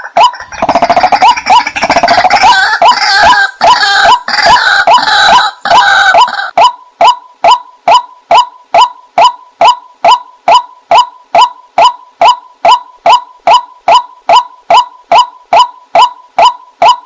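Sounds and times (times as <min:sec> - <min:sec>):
repeated hooked bird call: 0:00.0 - 0:17.0.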